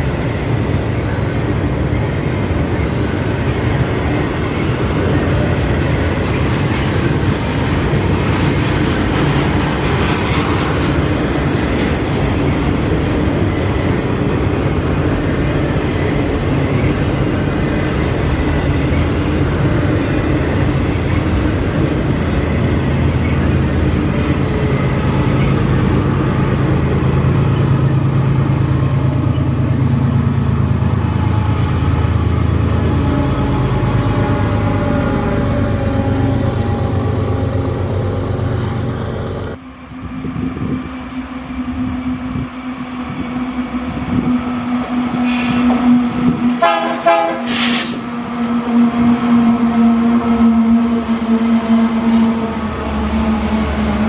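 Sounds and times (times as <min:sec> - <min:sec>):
freight train rolling on rails: 0:00.0 - 0:54.0.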